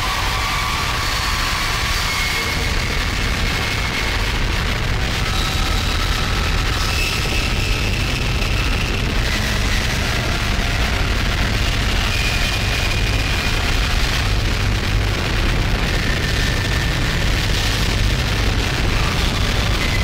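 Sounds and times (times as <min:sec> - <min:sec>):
dark industrial noise music: 0:00.0 - 0:20.0.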